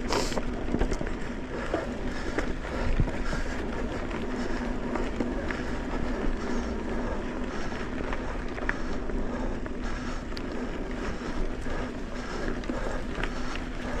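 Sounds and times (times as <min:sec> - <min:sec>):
faint steady hum: 0:00.0 - 0:14.0
tyre and wind noise: 0:00.0 - 0:14.0.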